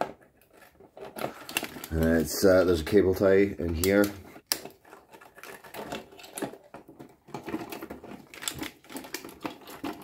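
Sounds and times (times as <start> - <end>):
electronics handling clicks and rustles: 0.0 - 10.0.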